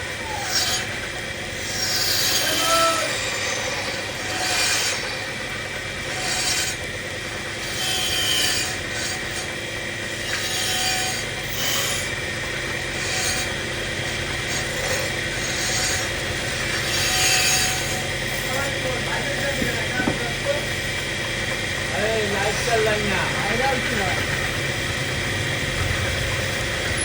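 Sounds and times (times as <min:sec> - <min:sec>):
tool scraping spinning wood: 0:00.0 - 0:27.0
wood lathe humming: 0:00.0 - 0:27.0.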